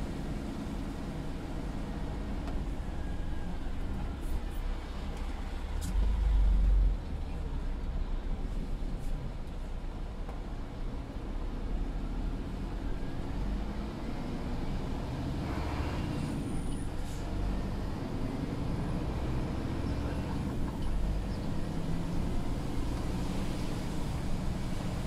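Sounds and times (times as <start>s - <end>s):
truck diesel engine rumble: 0.0s - 25.0s.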